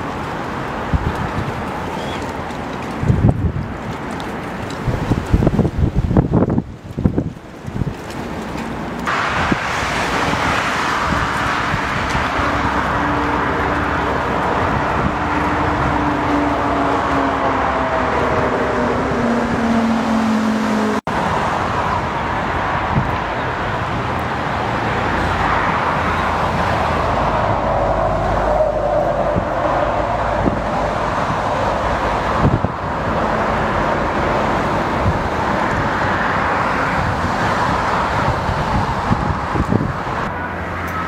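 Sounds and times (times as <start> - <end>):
jet engines falling in pitch: 6.4 - 41.0.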